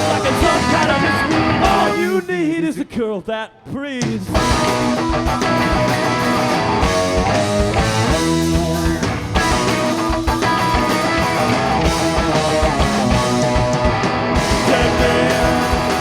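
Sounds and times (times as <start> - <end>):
bass guitar: 0.0 - 2.3, 4.1 - 16.0
electric guitars: 0.0 - 2.3, 4.2 - 16.0
drums: 0.0 - 16.0.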